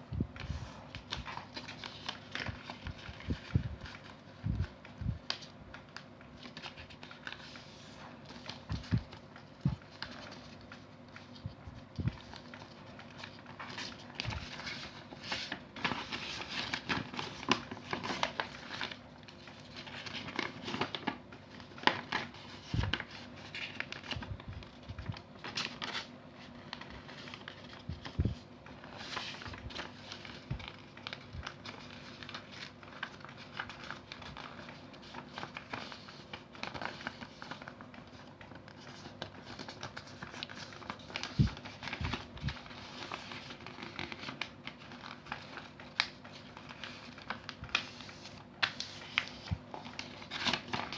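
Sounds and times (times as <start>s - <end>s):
paper rustling and crinkling: 0.4s - 50.9s.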